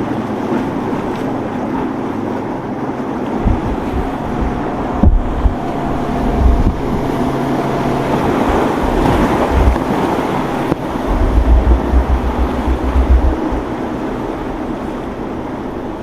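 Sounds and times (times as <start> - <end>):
motorboat engines running: 0.0 - 16.0
surf and waves rushing: 0.0 - 16.0
wind buffeting microphone: 0.0 - 16.0.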